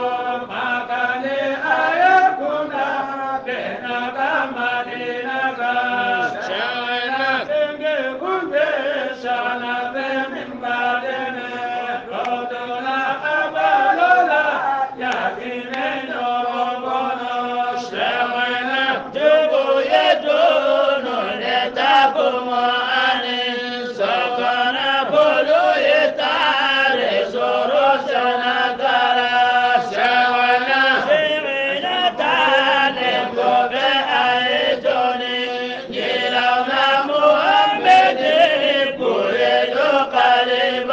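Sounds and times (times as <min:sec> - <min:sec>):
person chanting devotional poem: 0:00.0 - 0:40.9.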